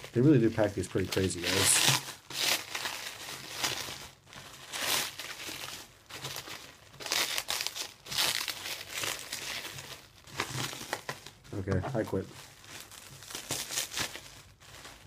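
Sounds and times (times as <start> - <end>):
plastic cling wrap crinkling: 0.0 - 15.0.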